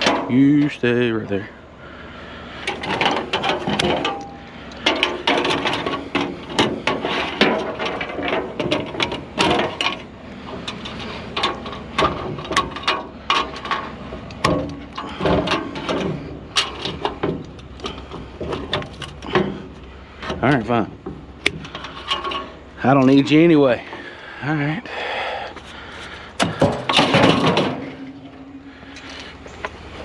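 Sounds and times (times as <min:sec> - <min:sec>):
scrap items clattering: 0:02.6 - 0:24.2, 0:25.5 - 0:30.0.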